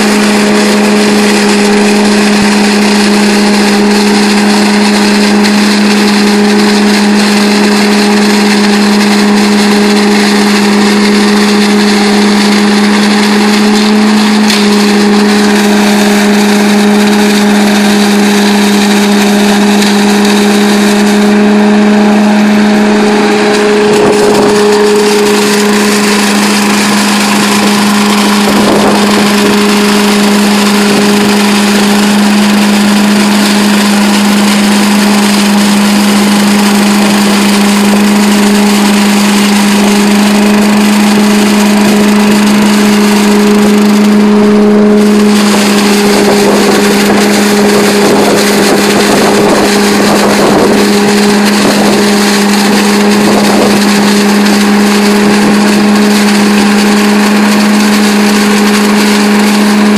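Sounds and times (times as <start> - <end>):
leaf vacuum engine drone: 0.0 - 59.9.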